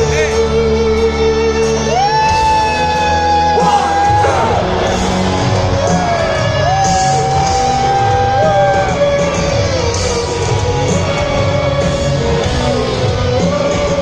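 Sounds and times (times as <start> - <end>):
crowd yelling: 0.0 - 14.0
live rock band: 0.0 - 14.0.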